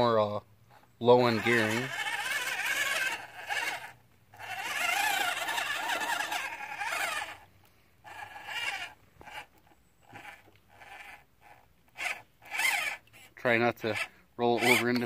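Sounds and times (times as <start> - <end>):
toy car motor whining: 1.0 - 15.0.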